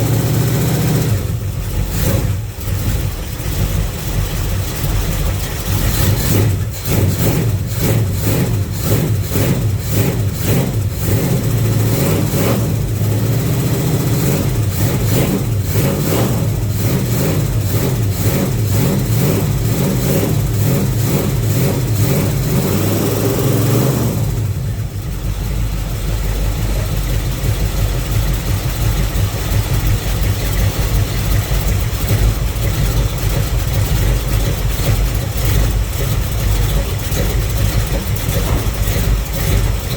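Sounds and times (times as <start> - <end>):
car engine idling unevenly: 0.0 - 39.9.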